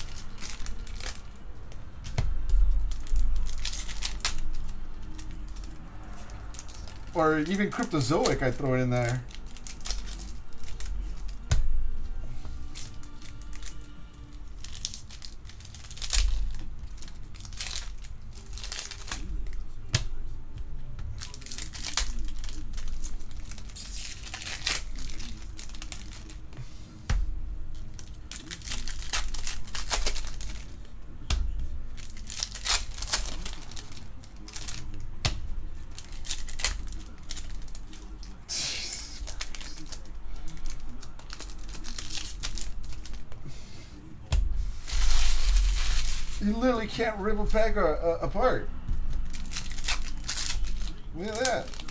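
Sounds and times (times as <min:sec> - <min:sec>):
foil wrappers crinkling and tearing: 0:00.0 - 0:11.5, 0:12.4 - 0:20.3, 0:21.1 - 0:27.0, 0:27.7 - 0:44.1, 0:44.7 - 0:51.9.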